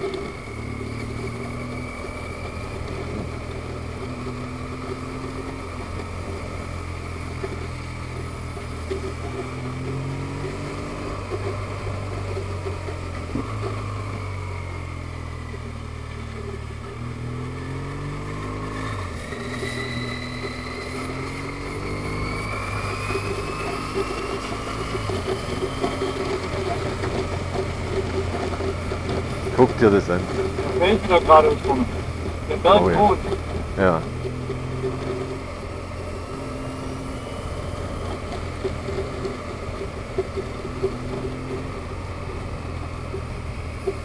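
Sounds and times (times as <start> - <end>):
motorcycle engine running: 0.0 - 44.0
wind and road noise: 0.0 - 44.0.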